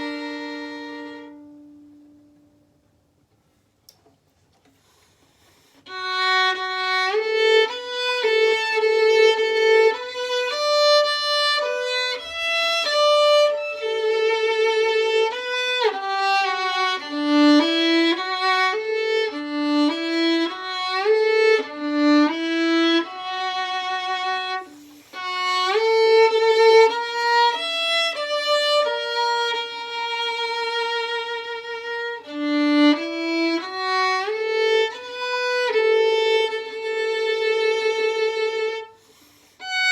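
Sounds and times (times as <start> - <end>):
solo violin slow melody: 0.0 - 2.5, 5.4 - 39.9.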